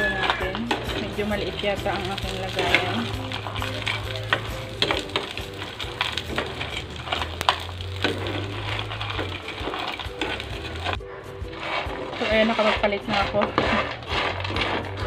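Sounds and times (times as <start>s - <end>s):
metal spatula scraping frying pan: 0.0s - 15.0s
oil sizzling: 0.0s - 15.0s.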